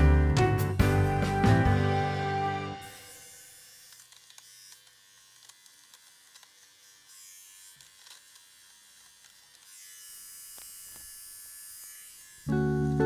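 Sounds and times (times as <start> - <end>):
fabric shaver whirring: 2.5 - 13.0.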